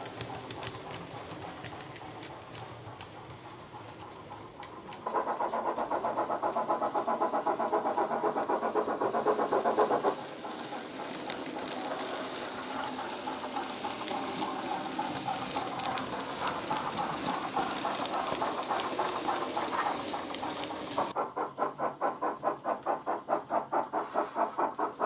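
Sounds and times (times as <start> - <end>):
model steam locomotive chuffs: 0.0 - 25.0
model wheels clicking on track: 0.0 - 25.0.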